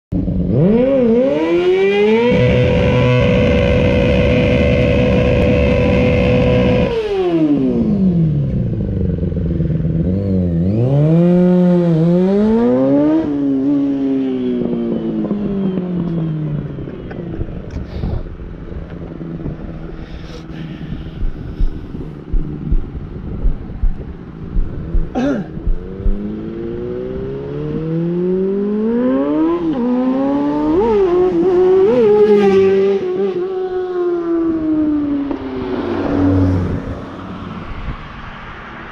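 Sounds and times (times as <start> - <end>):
motorcycle engine revving: 0.2 - 17.4, 19.0 - 37.0.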